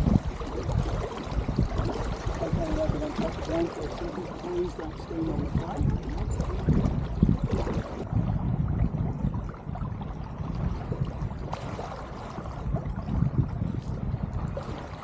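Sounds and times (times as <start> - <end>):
water rushing along boat hull: 0.0 - 15.0
wind buffeting microphone: 0.0 - 15.0.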